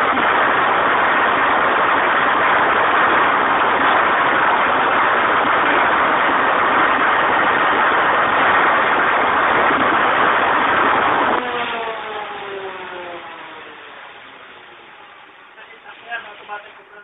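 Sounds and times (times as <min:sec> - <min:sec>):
engine winding down: 0:00.0 - 0:15.5
diesel generator running: 0:00.0 - 0:17.0.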